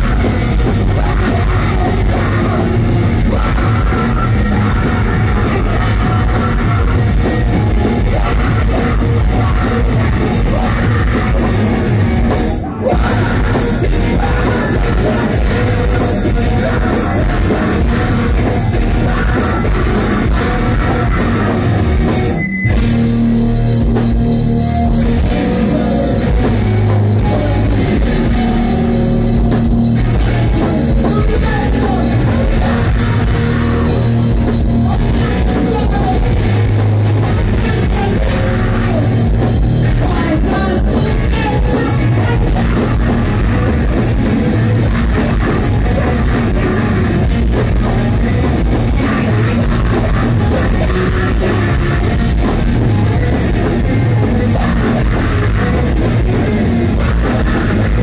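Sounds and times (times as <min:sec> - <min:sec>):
drum kit: 0:00.0 - 0:58.0
electric guitar: 0:00.0 - 0:58.0
person singing: 0:00.0 - 0:58.0.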